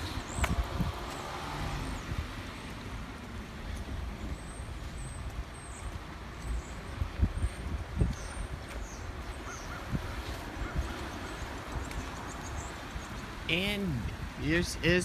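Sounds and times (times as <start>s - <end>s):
car engines passing: 0.0s - 15.0s.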